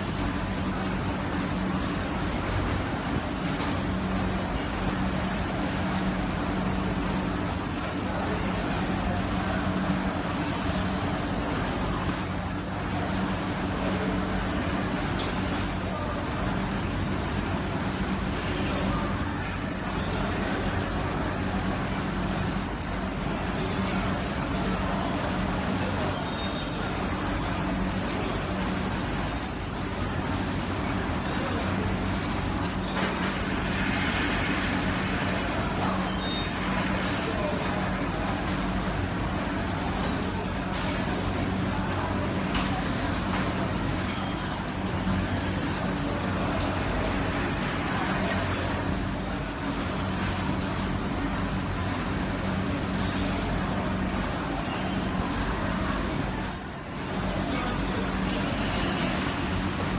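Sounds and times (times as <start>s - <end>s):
assembly line machinery hum: 0.0s - 59.9s.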